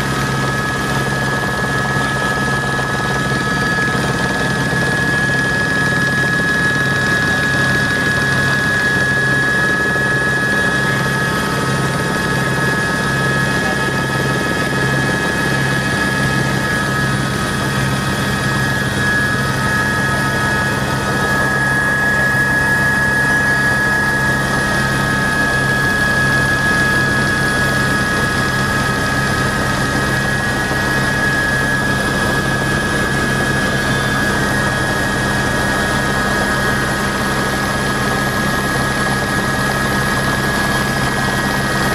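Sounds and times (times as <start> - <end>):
helicopter rotor beat: 0.0 - 41.9
helicopter turbine whine: 0.0 - 41.9.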